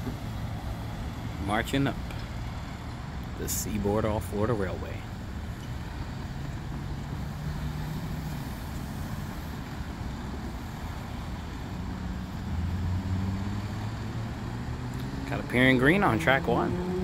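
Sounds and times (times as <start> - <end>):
cars driving over rail crossing: 0.0 - 17.0.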